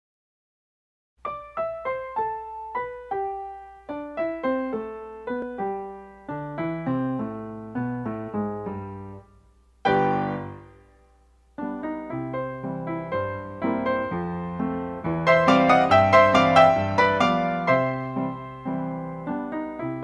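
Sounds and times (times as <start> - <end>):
ragtime piano: 1.3 - 9.2, 9.8 - 10.8, 11.6 - 20.0
loud piano chord: 1.3 - 20.0.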